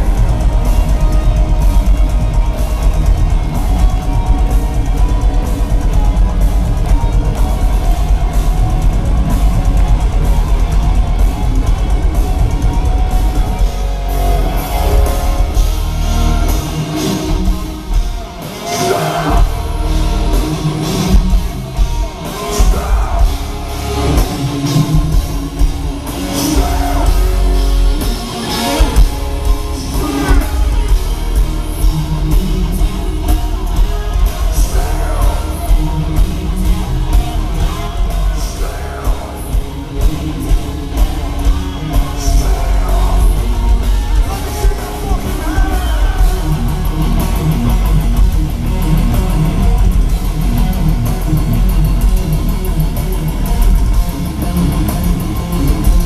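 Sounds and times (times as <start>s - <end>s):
vocals: 0.0s - 53.2s
heavy metal band playing: 0.0s - 56.0s.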